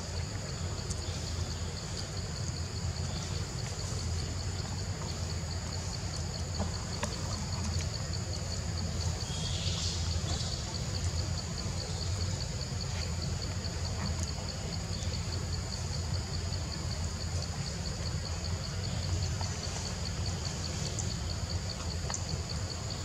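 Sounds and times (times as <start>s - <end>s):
pulsing insect drone: 0.0s - 23.0s.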